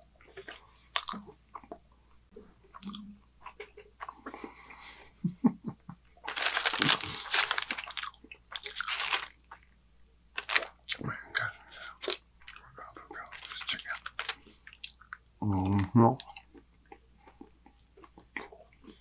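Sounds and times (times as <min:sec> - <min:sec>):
chewing and crunching food: 0:00.0 - 0:05.0, 0:06.2 - 0:09.8, 0:10.4 - 0:19.0.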